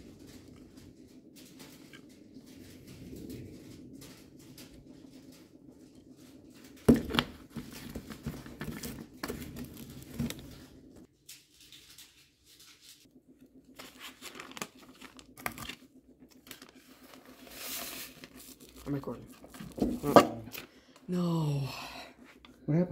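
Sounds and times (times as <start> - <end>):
plastic crinkling and rustling: 0.0 - 20.8.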